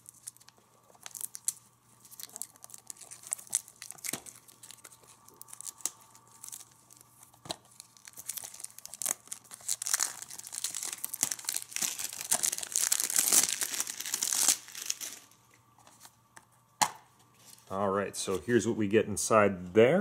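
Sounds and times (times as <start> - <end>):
cellophane crinkling: 0.0 - 16.1.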